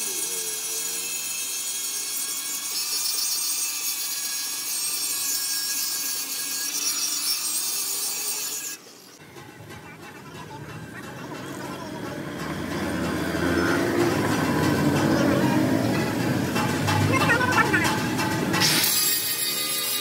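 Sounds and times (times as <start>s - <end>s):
angle grinder grinding metal: 0.0s - 20.0s.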